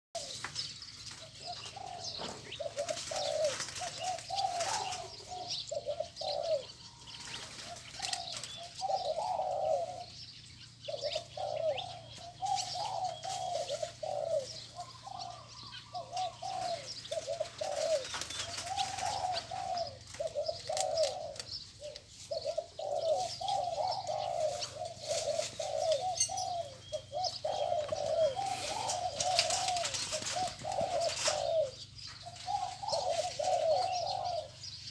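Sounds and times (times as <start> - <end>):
small birds chirping: 0.1 - 34.9
dove cooing: 0.2 - 34.9.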